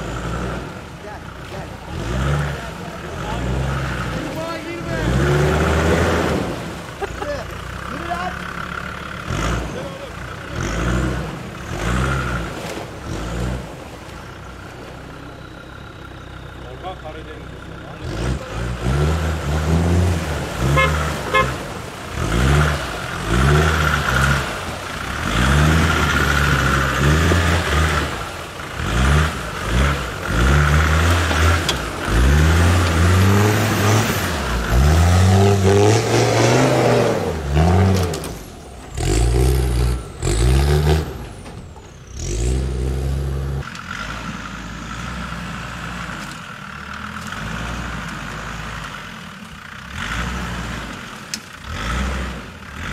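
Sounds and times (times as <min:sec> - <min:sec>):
diesel engine revving hard: 0:00.0 - 0:14.0, 0:16.7 - 0:52.9.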